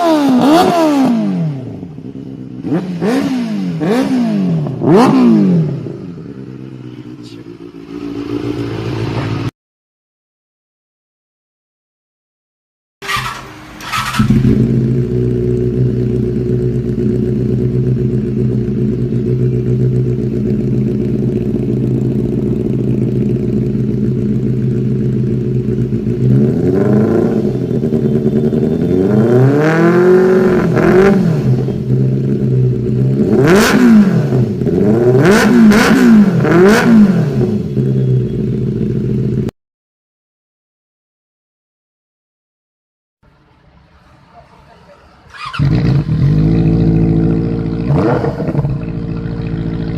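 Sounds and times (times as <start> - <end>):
motorcycle engine idling and revving: 0.0 - 9.5, 13.0 - 39.6, 45.2 - 49.9.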